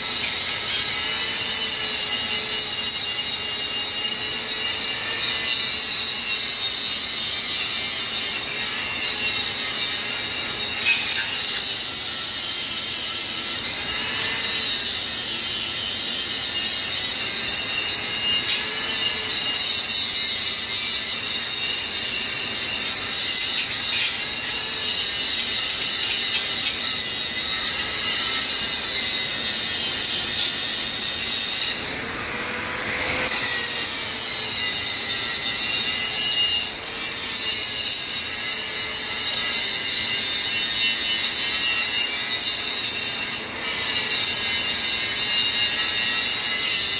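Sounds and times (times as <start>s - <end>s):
angle grinder grinding steel: 0.0s - 46.9s.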